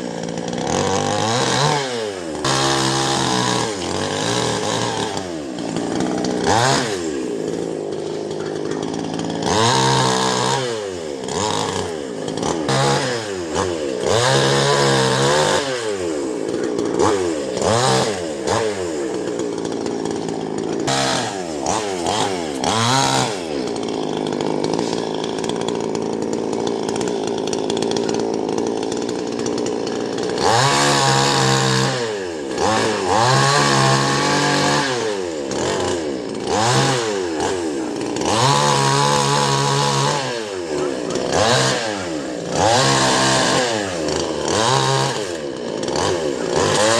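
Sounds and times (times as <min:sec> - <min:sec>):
chainsaw cutting a tree: 0:00.0 - 0:46.9.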